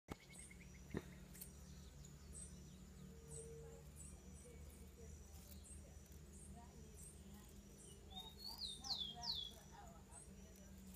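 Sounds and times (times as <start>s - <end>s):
low steady hum: 0.1s - 10.9s
small birds chirping: 0.1s - 10.9s.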